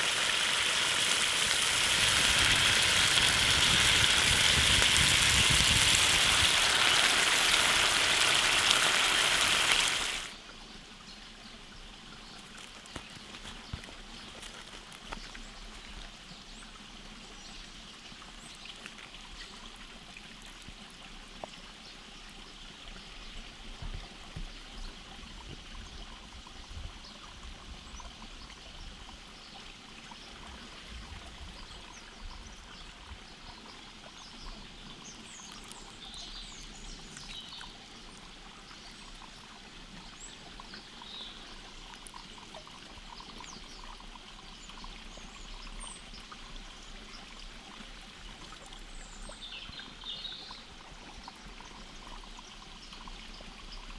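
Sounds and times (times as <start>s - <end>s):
stream trickling: 0.0s - 53.9s.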